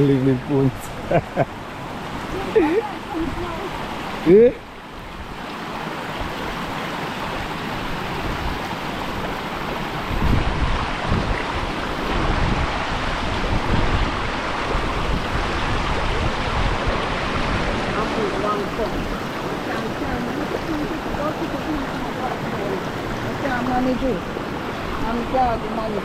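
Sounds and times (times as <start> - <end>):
river water rushing: 0.0 - 26.0
wind buffeting microphone: 4.9 - 26.0.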